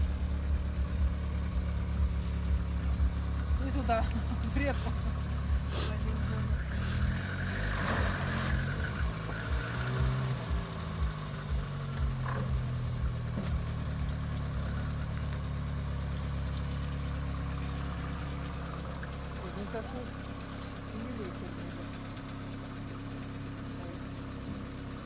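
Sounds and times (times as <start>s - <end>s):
car engine running at low revs: 0.0s - 25.0s.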